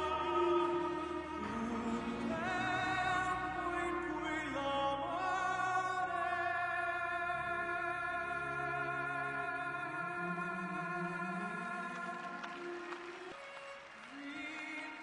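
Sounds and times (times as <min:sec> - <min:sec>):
orchestra playing: 0:00.0 - 0:14.7
operatic singing: 0:00.0 - 0:15.0.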